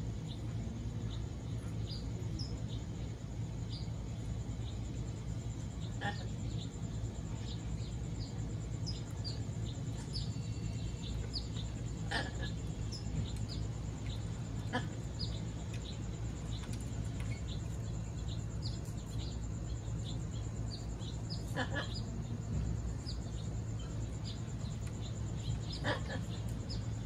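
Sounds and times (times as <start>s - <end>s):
birds chirping: 0.0s - 27.0s
steady low hum: 0.0s - 27.0s.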